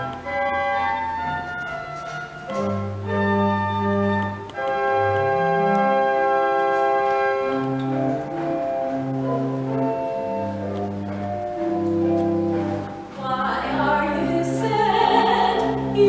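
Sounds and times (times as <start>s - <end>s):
organ playing chords: 0.0s - 16.0s.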